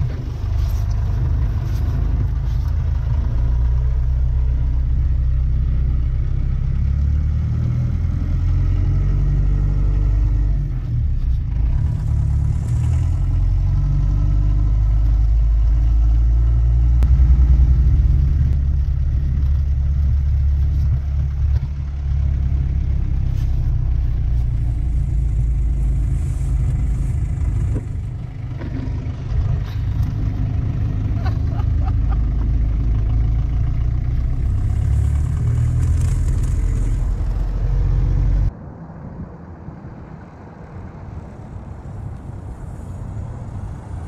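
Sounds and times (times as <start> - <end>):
diesel engine rumbling: 0.0 - 44.0.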